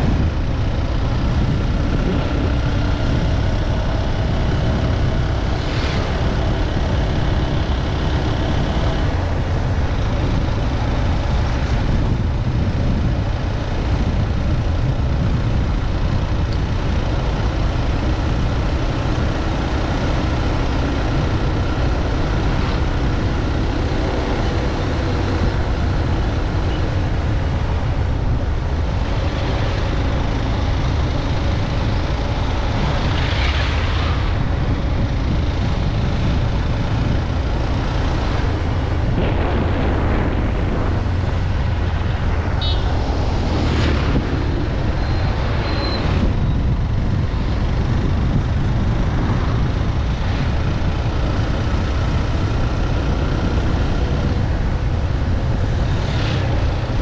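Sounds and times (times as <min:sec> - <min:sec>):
vehicle engine hum: 0:00.0 - 0:57.0
wind rumble on microphone: 0:00.0 - 0:57.0.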